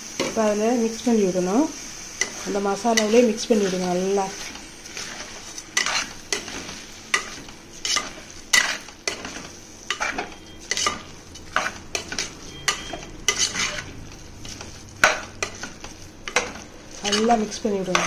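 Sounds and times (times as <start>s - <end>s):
soft sizzle: 0.0s - 18.0s
metal spatula scraping a pot: 2.2s - 18.0s.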